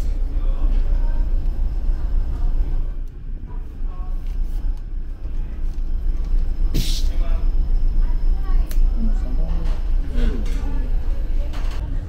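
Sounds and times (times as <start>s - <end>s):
faint voices: 0.0s - 12.0s
ship engines rumbling: 0.0s - 12.0s.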